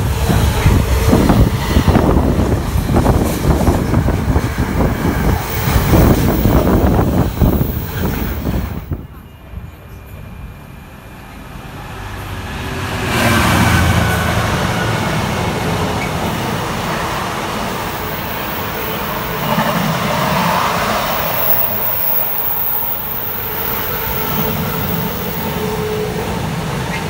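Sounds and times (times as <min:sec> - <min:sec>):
freight train passing: 0:00.0 - 0:27.0.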